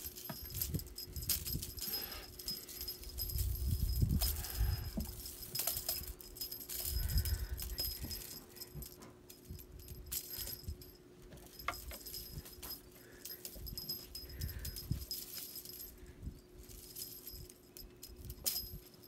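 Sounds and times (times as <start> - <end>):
wand toy rattling and rustling: 0.0 - 19.0.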